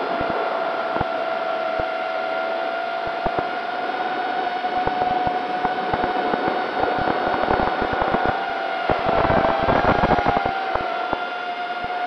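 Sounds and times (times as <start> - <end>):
sharp crackling clicks: 0.0 - 2.0, 3.0 - 3.6, 4.5 - 12.0
drone motors whining: 0.0 - 11.9.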